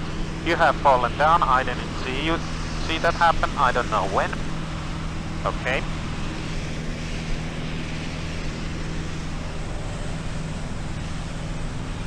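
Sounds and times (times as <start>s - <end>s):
propeller engine droning: 0.0s - 12.0s.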